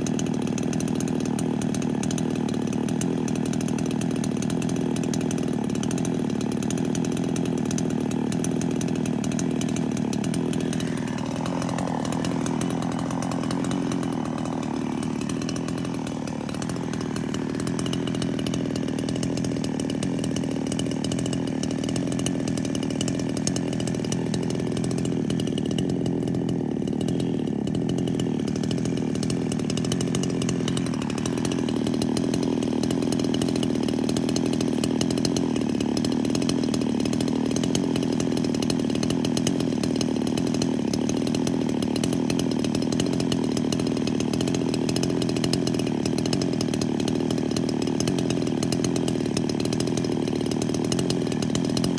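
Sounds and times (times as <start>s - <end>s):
chainsaw running: 0.0s - 51.9s.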